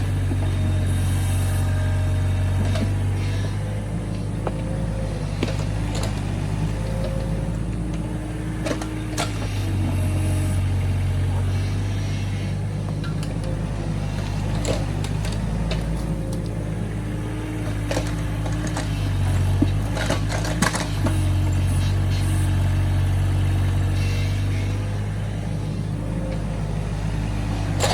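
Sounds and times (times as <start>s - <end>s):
excavator clanks and knocks: 0.0s - 27.9s
excavator diesel engine: 0.0s - 27.9s.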